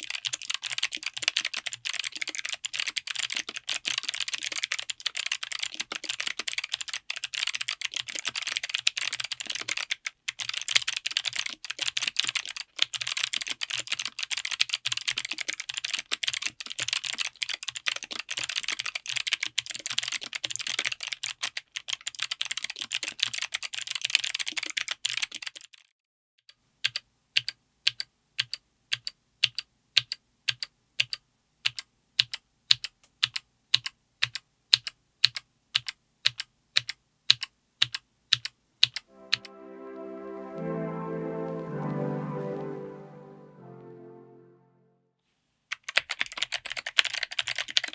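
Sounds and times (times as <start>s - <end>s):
fast typing on mechanical keyboard: 0.0s - 25.9s, 26.8s - 39.0s, 45.7s - 47.9s.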